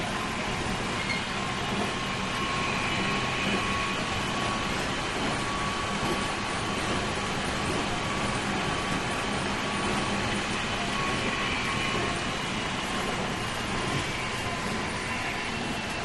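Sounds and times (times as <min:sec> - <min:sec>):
electric train rolling rumble: 0:00.0 - 0:16.0.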